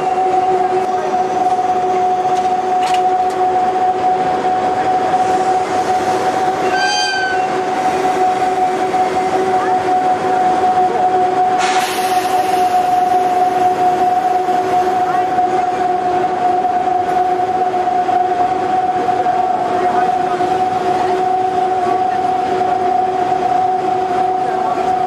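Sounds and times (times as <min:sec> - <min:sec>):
electric locomotive hum: 0:00.0 - 0:25.0.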